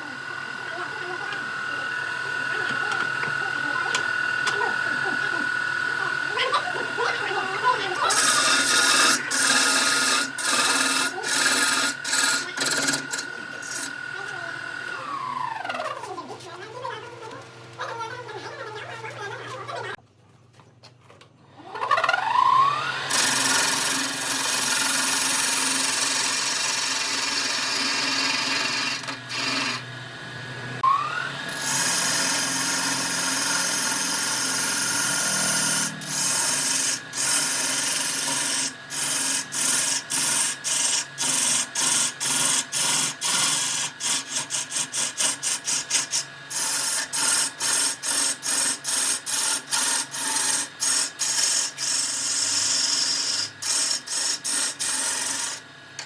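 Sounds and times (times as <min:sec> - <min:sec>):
power tool sanding wood: 0:00.0 - 0:20.0, 0:21.7 - 0:56.0.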